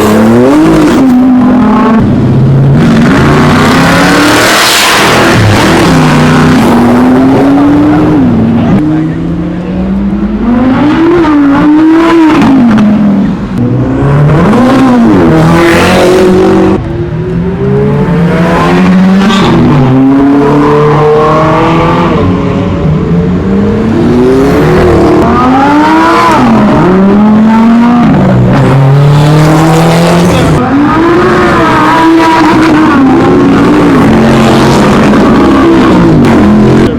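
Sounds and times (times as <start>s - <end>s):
supercar engines revving: 0.0s - 36.9s.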